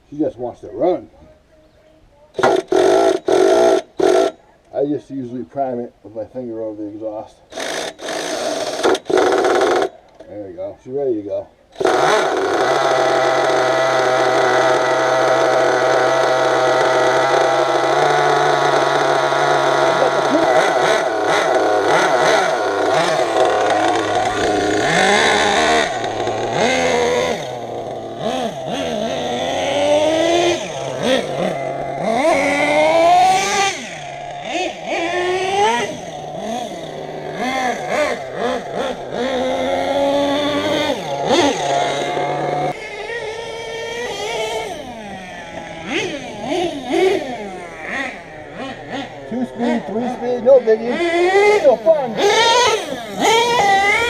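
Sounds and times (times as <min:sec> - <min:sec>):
small engine revving high-pitched: 0:02.4 - 0:04.4, 0:07.5 - 0:10.0, 0:11.8 - 0:54.0.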